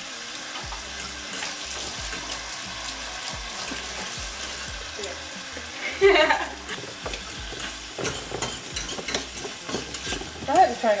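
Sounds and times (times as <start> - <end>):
meat sizzling in frying pan: 0.0 - 11.0
tap running into sink: 0.5 - 10.8.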